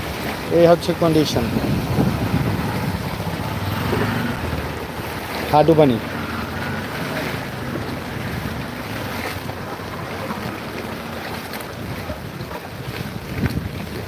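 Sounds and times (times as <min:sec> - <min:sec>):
floodwater washing: 0:00.0 - 0:14.0
wind buffeting microphone: 0:00.0 - 0:14.0.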